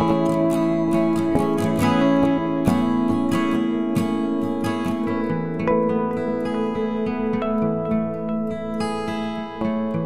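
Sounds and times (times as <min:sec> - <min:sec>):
plucked string tune: 0:00.0 - 0:10.0.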